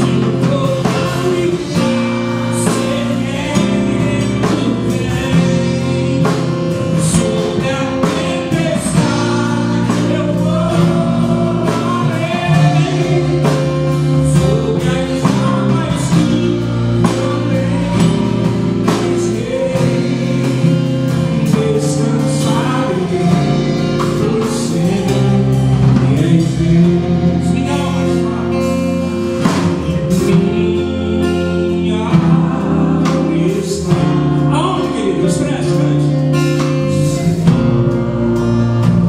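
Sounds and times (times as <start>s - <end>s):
acoustic guitar: 0.0s - 39.0s
drums: 0.0s - 39.0s
electric guitars: 0.0s - 39.0s
man singing into a microphone: 0.0s - 39.0s.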